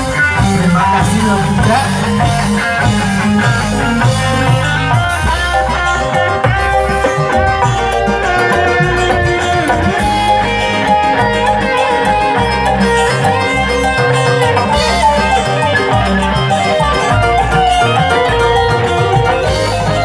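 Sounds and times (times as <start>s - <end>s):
electric guitar bending notes: 0.0s - 20.0s
live band playing: 0.0s - 20.0s.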